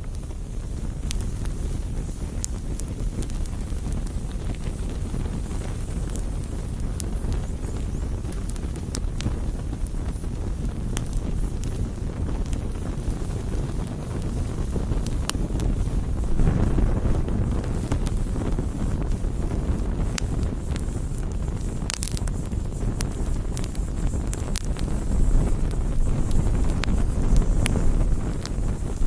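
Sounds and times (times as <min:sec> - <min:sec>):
flames rushing: 0:00.0 - 0:29.0
wood crackling and popping: 0:00.0 - 0:29.0.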